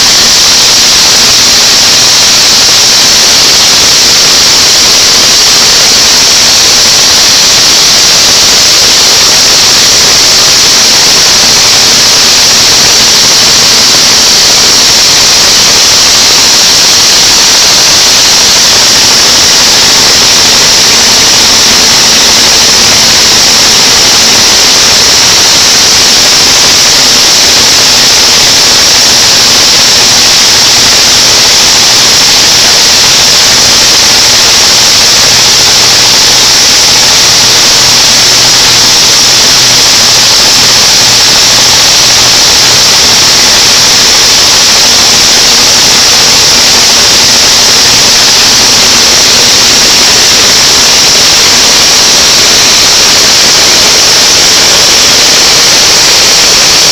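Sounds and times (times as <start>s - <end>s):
blower rushing air: 0.0s - 56.9s.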